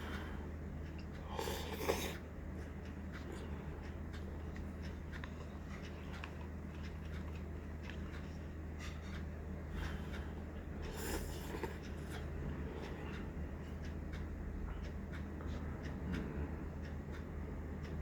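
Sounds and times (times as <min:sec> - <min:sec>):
low electrical hum: 0:00.0 - 0:18.0
eating and handling clicks: 0:00.8 - 0:16.3.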